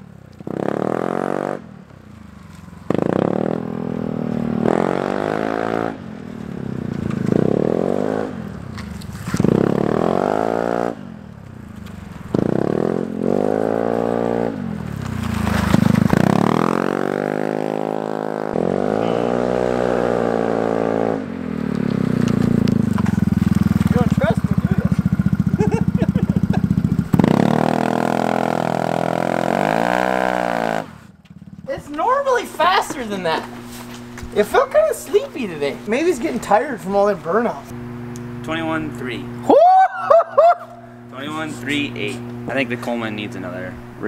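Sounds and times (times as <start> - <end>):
scooter engine accelerating: 0.0 - 44.0.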